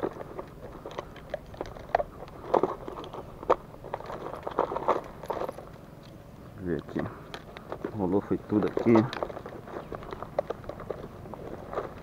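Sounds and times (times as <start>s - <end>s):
handling noise crunches and clicks: 0.0s - 12.0s.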